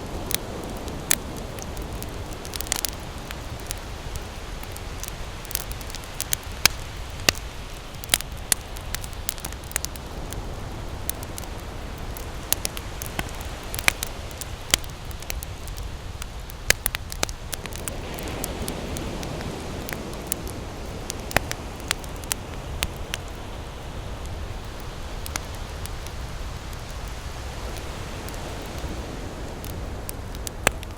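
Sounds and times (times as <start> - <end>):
fire hiss: 0.0 - 30.9
wood fire crackling: 0.0 - 30.9.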